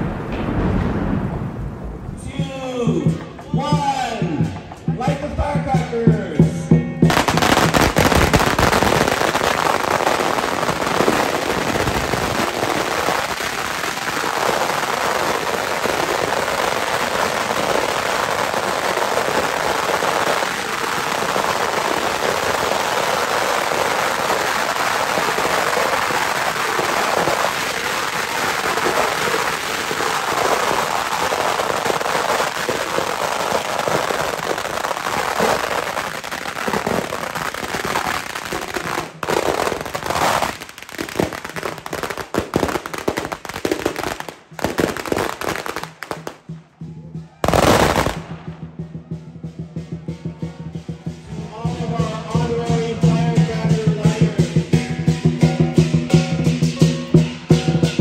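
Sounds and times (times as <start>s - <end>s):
firecrackers crackling: 0.0s - 6.2s, 7.0s - 58.0s.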